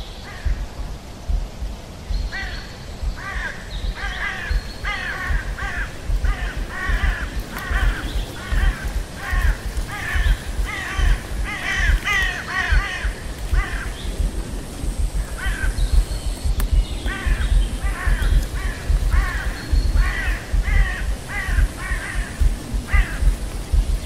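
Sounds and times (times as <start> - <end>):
low fluctuating rumble: 0.4 - 24.0
crows cawing: 2.3 - 14.3, 15.1 - 15.9, 17.0 - 23.5.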